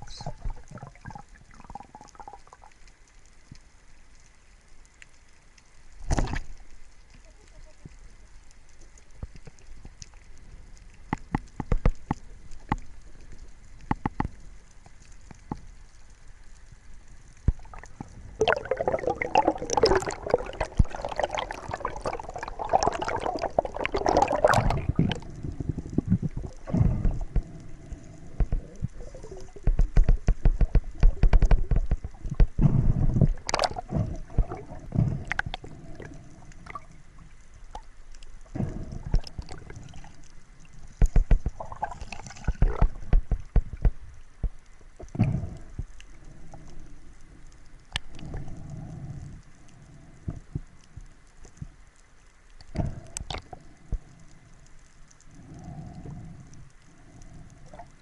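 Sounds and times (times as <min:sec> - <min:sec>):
water gurgling and sloshing: 0:00.0 - 0:04.7, 0:05.7 - 0:58.0.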